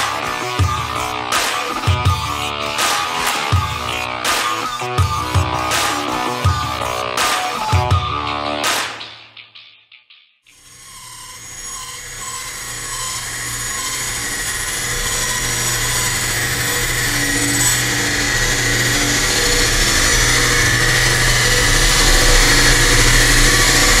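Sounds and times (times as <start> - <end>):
bandsaw cutting wood: 0.0 - 8.8, 10.5 - 24.0.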